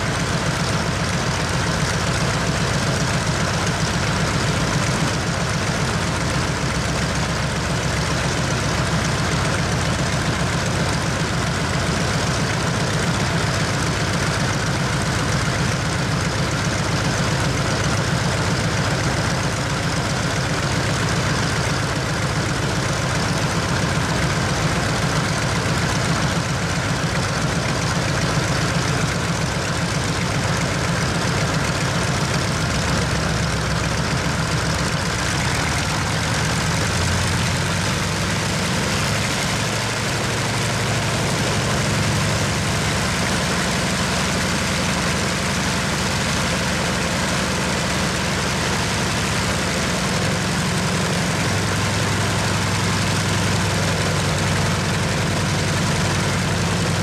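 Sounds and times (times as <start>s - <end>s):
radial engine idling: 0.0s - 57.0s.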